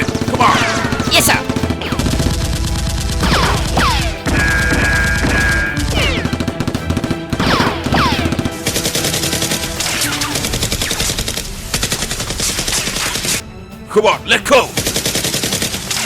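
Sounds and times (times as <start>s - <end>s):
machine-gun fire effects: 0.0s - 13.4s
background music: 0.0s - 16.0s.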